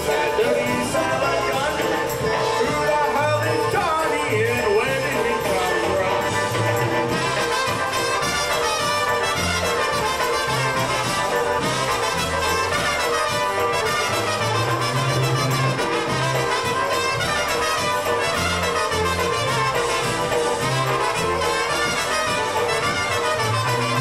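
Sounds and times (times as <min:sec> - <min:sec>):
bass line: 0:00.0 - 0:24.0
polka band playing: 0:00.0 - 0:24.0
trumpets playing: 0:00.0 - 0:24.0.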